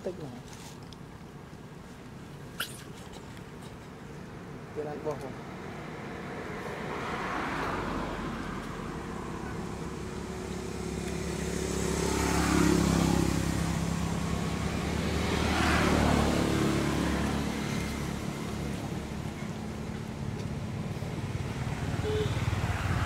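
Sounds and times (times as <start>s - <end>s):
vehicles passing by: 0.0s - 23.0s.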